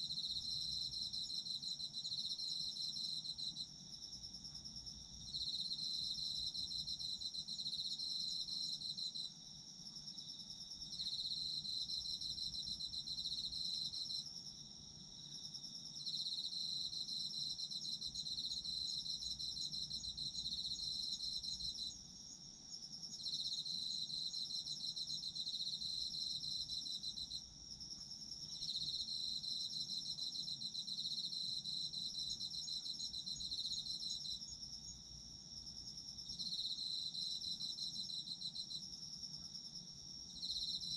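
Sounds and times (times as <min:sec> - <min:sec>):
lower pulsing insect trill: 0:00.0 - 0:40.9.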